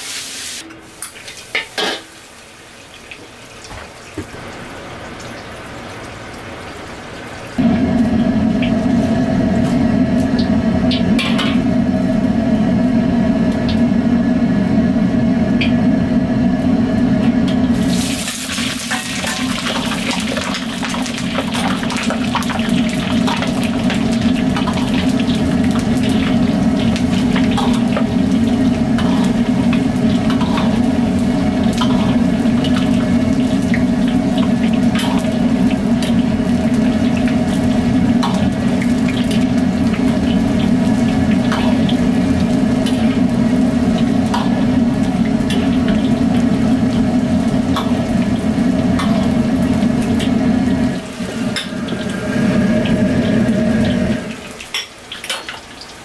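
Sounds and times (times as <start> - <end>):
oil sizzling and bubbling: 0.0 - 56.0
stove burner rushing: 7.6 - 55.4.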